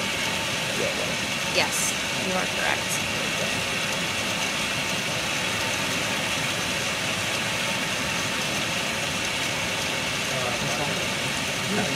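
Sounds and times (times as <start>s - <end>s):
machinery hiss and hum: 0.0s - 11.9s.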